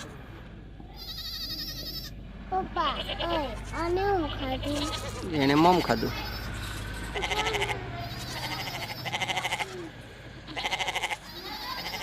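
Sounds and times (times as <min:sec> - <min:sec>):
livestock bleating: 0:00.9 - 0:02.2, 0:02.8 - 0:09.9, 0:10.5 - 0:12.0.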